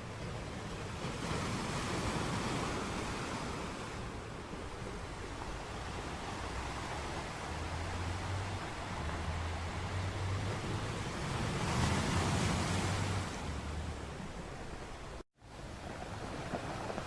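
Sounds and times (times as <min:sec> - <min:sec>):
low rumble of surf: 0:00.0 - 0:17.0
sea waves washing onto shore: 0:00.0 - 0:17.0.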